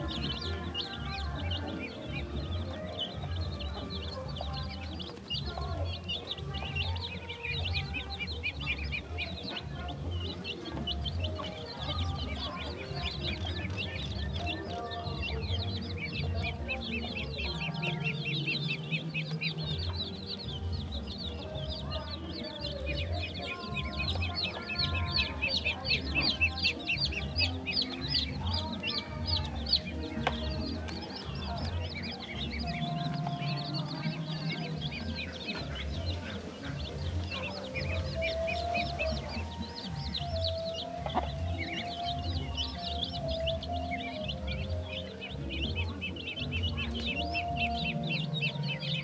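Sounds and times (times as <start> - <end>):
background music with low beat: 0.0 - 49.0
chickens clucking: 0.0 - 49.0
chicks peeping: 0.0 - 49.0.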